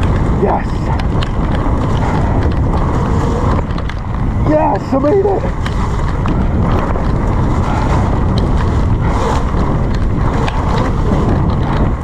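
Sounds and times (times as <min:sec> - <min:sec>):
bike rattles and clicks: 0:00.0 - 0:12.0
wind buffeting microphone: 0:00.0 - 0:12.0.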